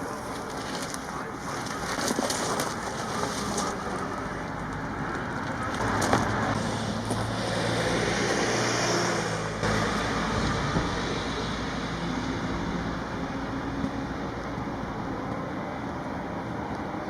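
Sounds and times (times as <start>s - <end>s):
outdoor noise: 0.0s - 17.0s
vehicle engine running: 0.0s - 17.0s.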